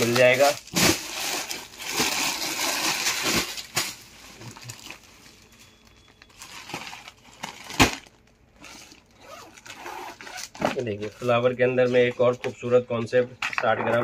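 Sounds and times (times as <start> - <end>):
plastic packets crinkling: 0.0 - 12.6.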